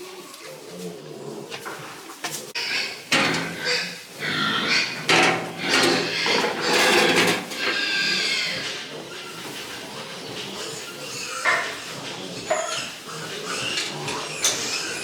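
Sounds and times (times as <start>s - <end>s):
pigs squealing: 2.4s - 15.0s.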